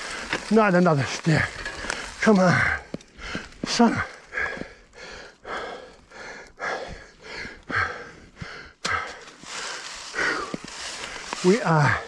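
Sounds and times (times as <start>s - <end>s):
person breathing hard: 1.8s - 12.0s.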